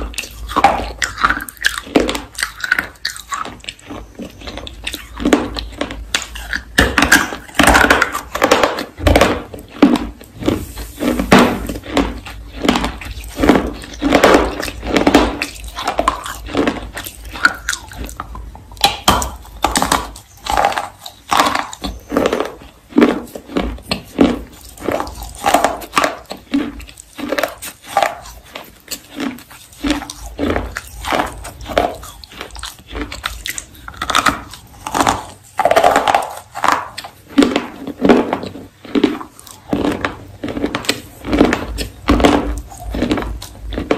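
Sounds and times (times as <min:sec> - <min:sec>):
dry crunches of chewing: 0:00.0 - 0:43.9.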